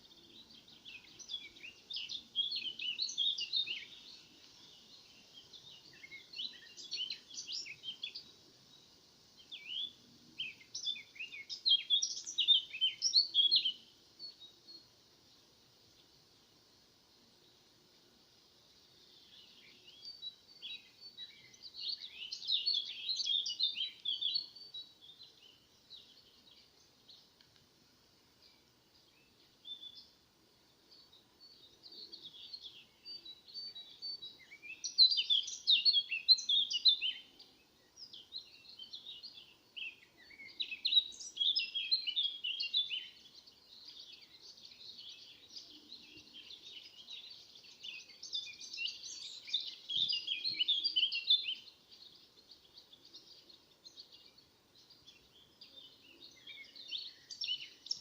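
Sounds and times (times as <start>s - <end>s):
songbirds twittering: 0.0s - 58.0s.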